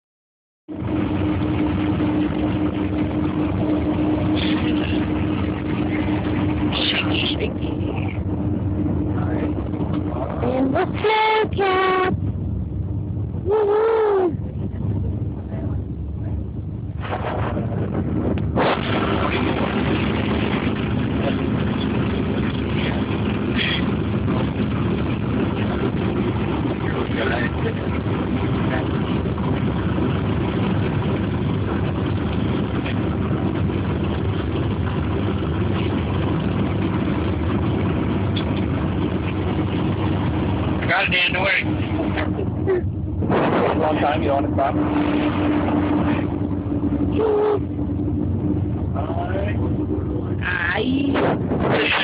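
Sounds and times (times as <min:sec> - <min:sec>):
snowcat engine droning: 0:00.7 - 0:52.0.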